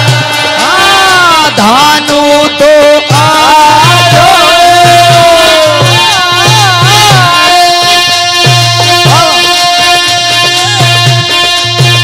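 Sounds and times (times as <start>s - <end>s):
hand drums beat: 0.0s - 2.1s, 3.1s - 12.0s
harmonium melody: 0.0s - 12.0s.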